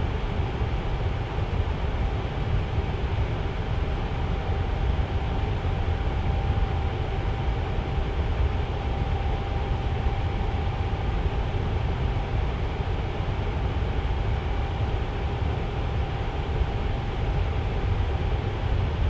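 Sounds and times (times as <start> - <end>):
tower fan rushing air: 0.0 - 19.0.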